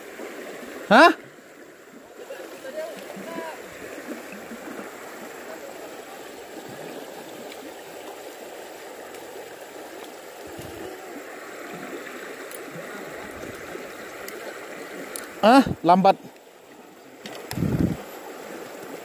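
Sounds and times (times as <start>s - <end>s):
river water flowing over rocks: 0.0s - 19.0s.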